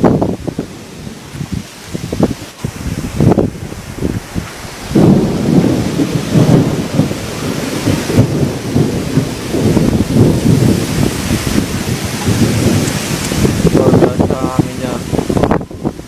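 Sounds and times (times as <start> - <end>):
gusting wind buffeting microphone: 0.0 - 16.0.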